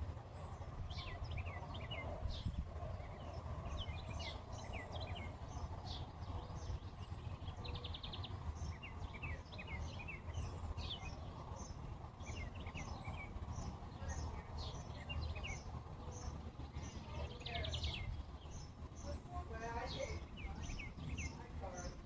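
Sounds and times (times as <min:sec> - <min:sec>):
songbirds chirping: 0:00.0 - 0:22.0
steady low rumble: 0:00.0 - 0:22.0.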